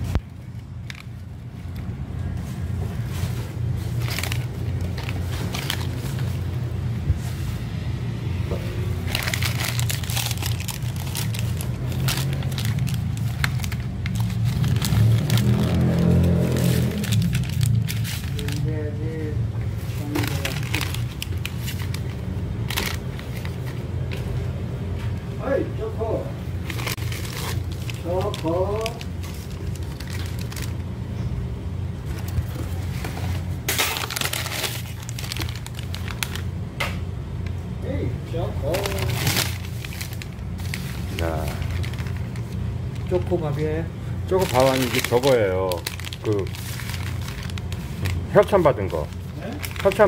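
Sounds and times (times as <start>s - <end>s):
plastic packets crinkling: 0.0s - 6.6s, 8.9s - 24.4s, 26.6s - 30.9s, 32.0s - 36.8s, 38.6s - 43.6s, 44.2s - 50.0s
sharp paper crackles: 0.0s - 6.6s, 8.9s - 24.3s, 26.6s - 30.9s, 32.0s - 36.6s, 38.6s - 43.6s, 44.2s - 50.0s.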